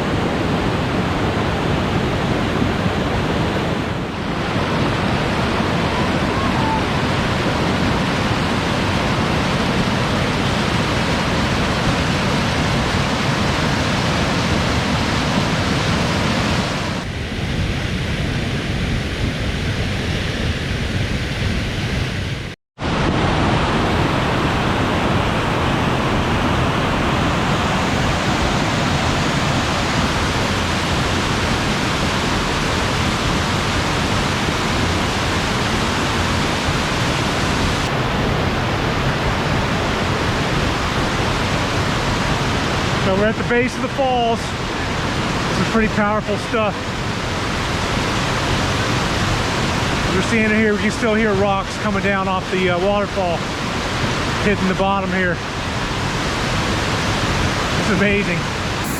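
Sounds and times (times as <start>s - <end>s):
waterfall roaring: 0.0s - 17.1s, 22.8s - 58.9s.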